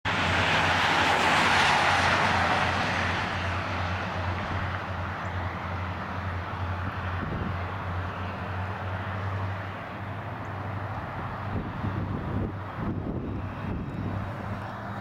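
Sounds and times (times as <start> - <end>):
diesel locomotives droning: 0.1 - 15.0.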